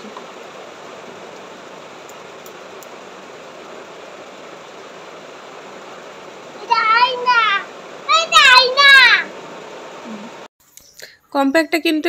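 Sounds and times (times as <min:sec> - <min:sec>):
room noise hiss: 0:00.0 - 0:11.2.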